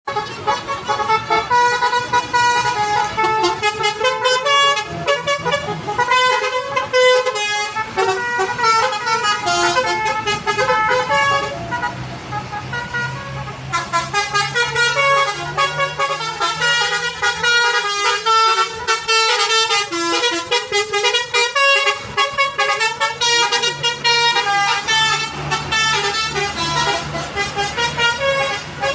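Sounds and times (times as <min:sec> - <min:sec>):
multi-tone musical bus horn: 0:00.1 - 0:28.9.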